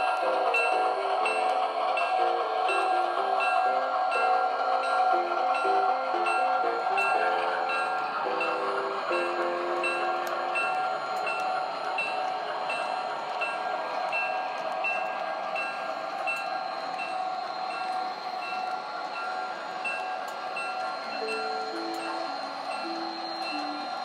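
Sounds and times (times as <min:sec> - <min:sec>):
model train whirring: 0:00.0 - 0:24.0.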